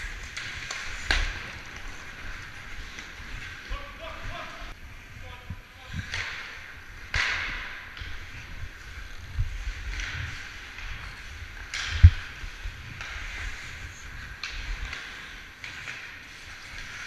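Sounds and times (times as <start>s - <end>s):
ice skates scraping ice: 0.0s - 5.1s, 6.0s - 17.0s
wind rumble on microphone: 0.0s - 7.2s, 7.8s - 14.9s.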